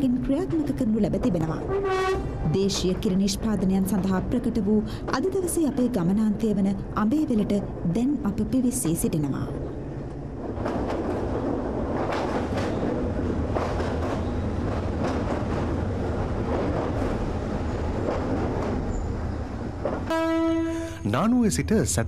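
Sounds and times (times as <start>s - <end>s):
train rumbling on track: 0.0s - 22.0s.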